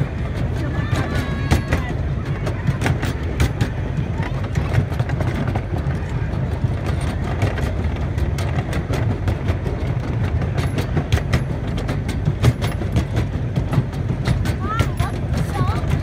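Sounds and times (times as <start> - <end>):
miniature train rumbling: 0.0 - 16.0
wheels clicking and clacking: 0.0 - 16.0.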